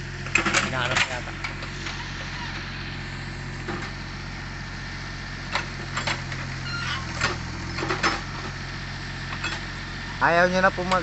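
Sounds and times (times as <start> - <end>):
diesel engine running at low revs: 0.0 - 11.0.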